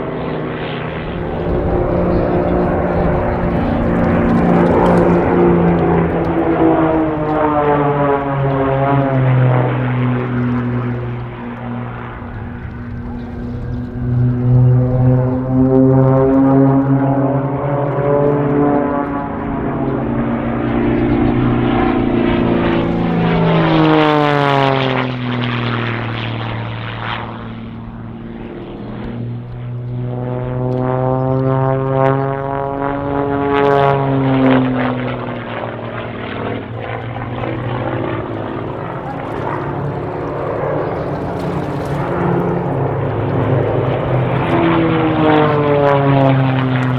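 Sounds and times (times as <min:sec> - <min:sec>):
propeller aircraft engines droning: 0:00.0 - 0:46.9.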